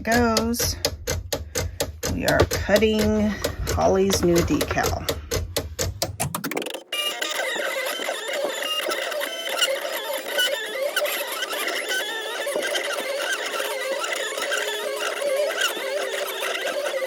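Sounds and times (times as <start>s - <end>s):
vinyl cutter motors whirring: 2.3s - 17.0s.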